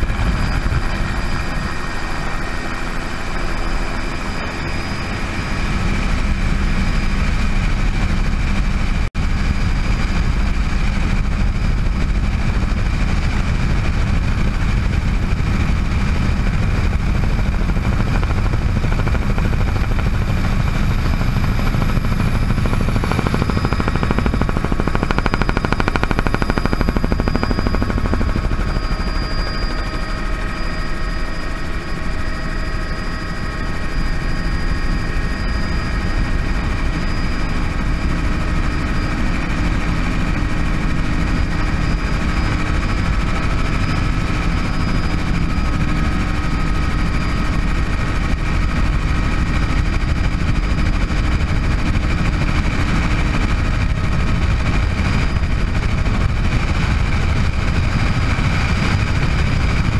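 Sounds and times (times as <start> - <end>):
helicopter engine and rotor drone: 0.0 - 59.9
high turbine whine: 0.0 - 59.9.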